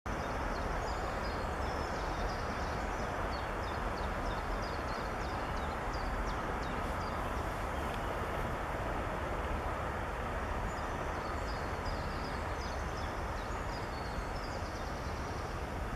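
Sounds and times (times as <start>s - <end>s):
small birds chirping: 0.1s - 8.4s, 10.4s - 15.9s
rushing outdoor noise: 0.1s - 15.9s.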